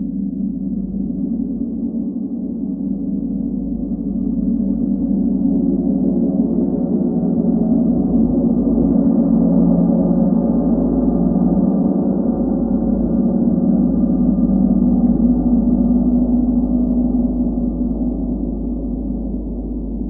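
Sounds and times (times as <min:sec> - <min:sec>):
sustained gong wash: 0:00.0 - 0:20.0.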